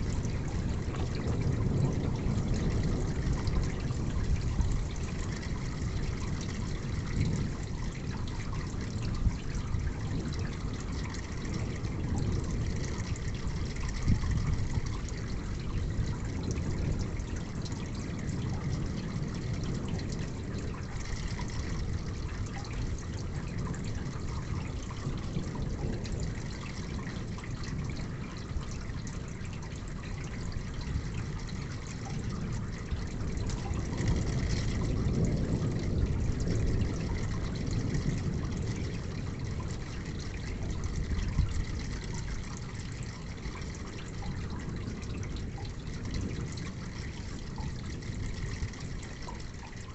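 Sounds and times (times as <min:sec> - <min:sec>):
steady rain falling: 0:00.0 - 0:49.9
water trickling and dripping: 0:00.0 - 0:49.9.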